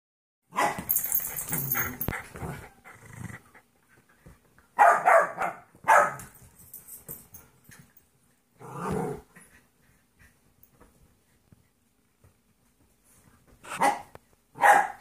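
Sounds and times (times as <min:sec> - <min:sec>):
dogs play-fighting and vocalising: 0:00.6 - 0:04.8, 0:05.6 - 0:14.5.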